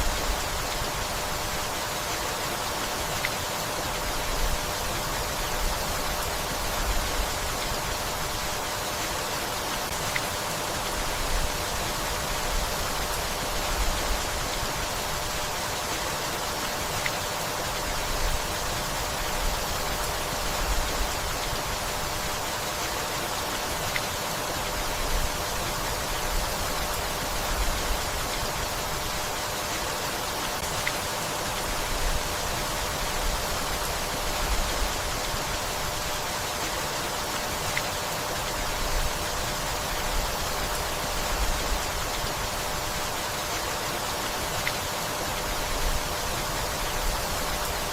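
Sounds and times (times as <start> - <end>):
rain on leaves: 0.0 - 47.9.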